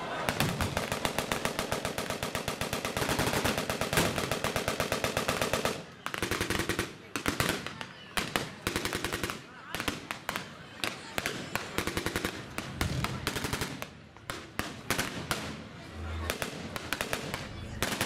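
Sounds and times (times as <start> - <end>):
rapid blank gunfire: 0.2 - 15.6, 16.2 - 18.0.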